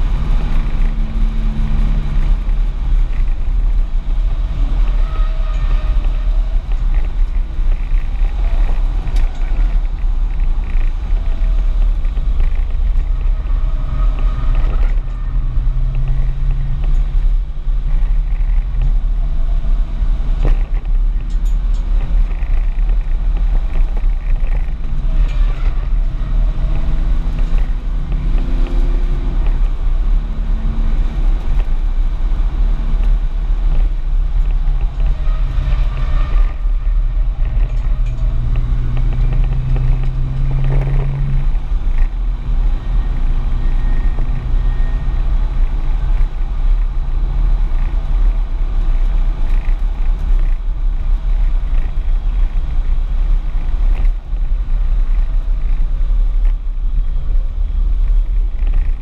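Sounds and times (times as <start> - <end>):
car engine running hard: 0.0 - 59.0
low rumble of road and wind: 0.0 - 59.0.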